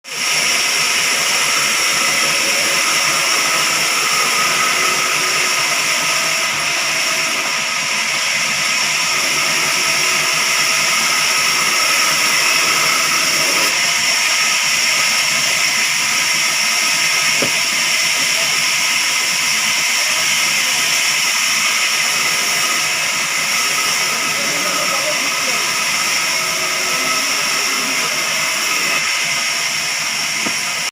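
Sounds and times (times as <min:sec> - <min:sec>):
saw cutting wooden log: 0:00.0 - 0:30.9.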